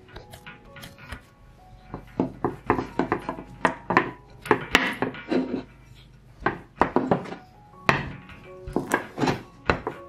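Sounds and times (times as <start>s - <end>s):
rolling pin rolling dough on board: 0.0s - 10.0s.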